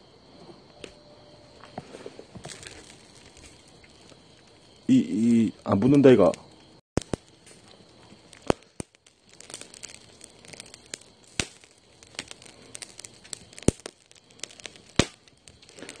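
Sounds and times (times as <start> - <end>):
faint hiss: 1.0 - 16.0
wood fire crackling: 1.5 - 16.0.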